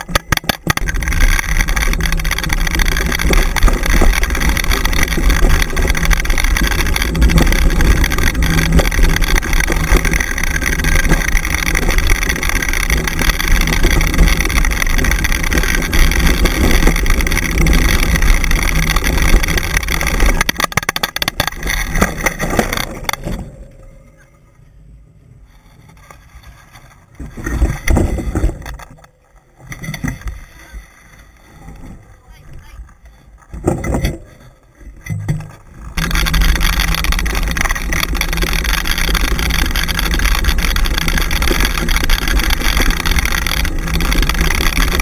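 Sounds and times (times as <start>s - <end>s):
dog-drawn rig rumbling and rattling: 0.0s - 24.3s, 25.3s - 45.0s.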